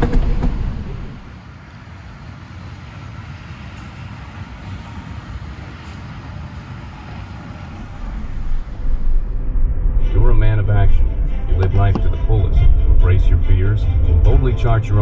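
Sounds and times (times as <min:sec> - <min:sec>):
steady vehicle noise: 0:00.0 - 0:15.0.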